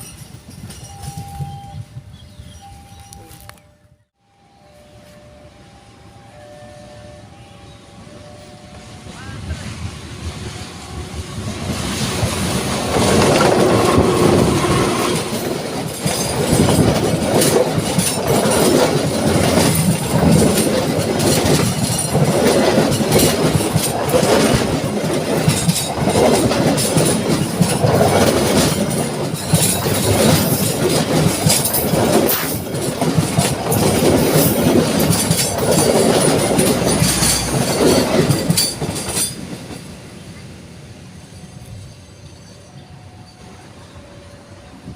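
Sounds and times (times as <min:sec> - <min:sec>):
train wheels clattering on rails: 0:00.0 - 0:01.8, 0:08.7 - 0:44.9
train rumble: 0:00.0 - 0:44.9.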